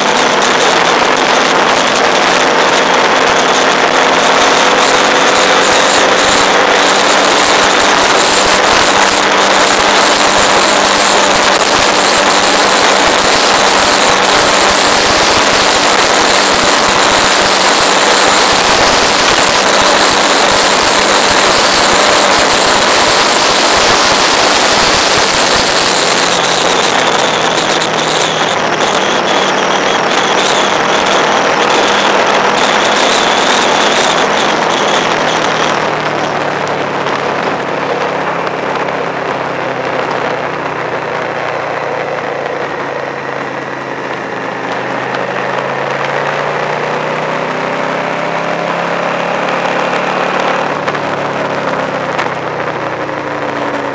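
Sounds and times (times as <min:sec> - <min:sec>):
vehicle engine: 0:00.0 - 0:53.9
wind and road rush: 0:00.0 - 0:53.9.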